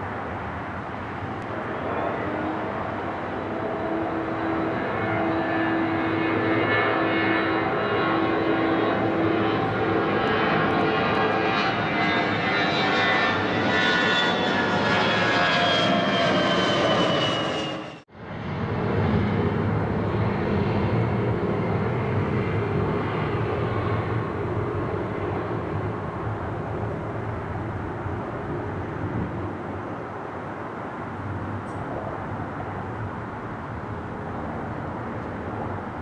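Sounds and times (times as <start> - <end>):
jet engine whine: 0.0 - 36.0
jet engines passing overhead: 0.0 - 36.0.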